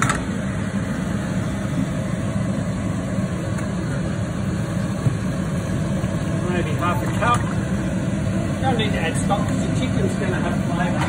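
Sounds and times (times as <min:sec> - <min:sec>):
extractor fan low rumble: 0:00.0 - 0:11.0.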